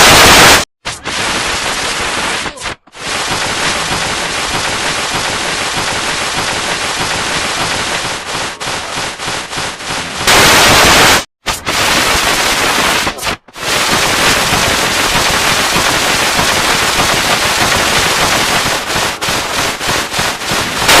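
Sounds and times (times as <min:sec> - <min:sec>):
harsh distorted static noise: 0:00.0 - 0:21.0.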